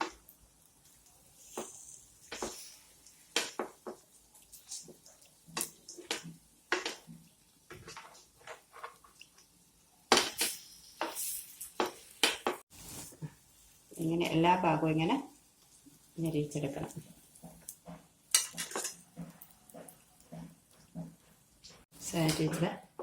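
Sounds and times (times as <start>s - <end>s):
sandwich frying: 0.0s - 23.0s.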